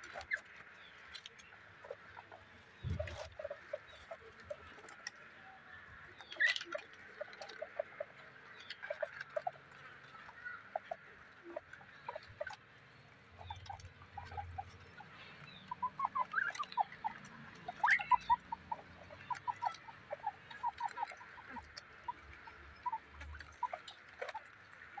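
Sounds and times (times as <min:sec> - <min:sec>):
guinea pigs squeaking and chirping: 0:00.0 - 0:25.0.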